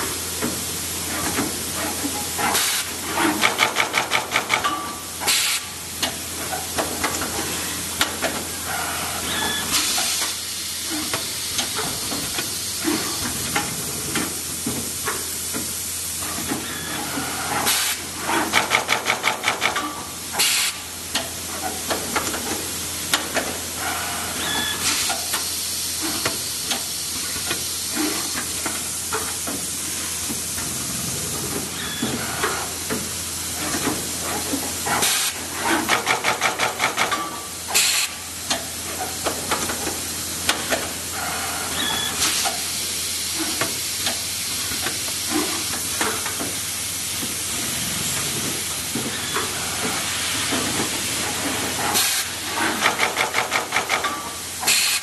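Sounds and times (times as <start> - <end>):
machine pneumatic hissing: 0.0 - 55.0.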